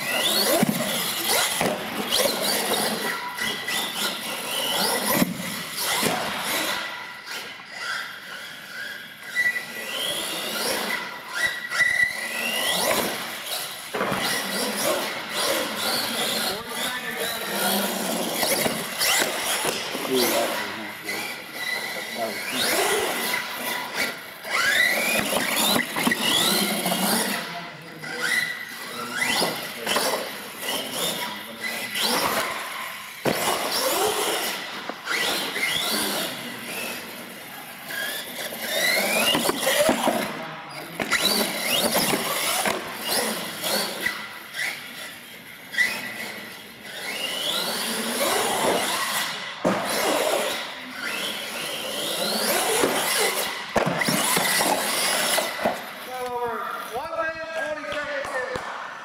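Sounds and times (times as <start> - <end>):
toy car electric motor whining: 0.0 - 56.9
tyres squealing on concrete: 0.0 - 58.0.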